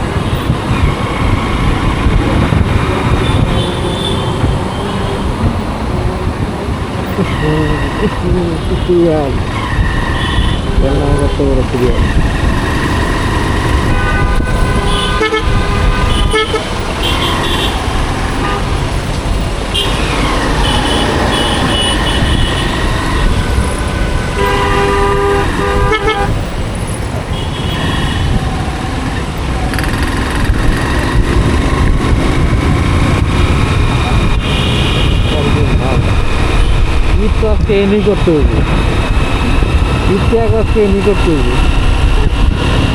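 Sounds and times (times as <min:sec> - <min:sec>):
vehicle horns tooting: 0:00.0 - 0:19.1, 0:19.7 - 0:42.9
motorcycle riding noise: 0:00.0 - 0:42.9.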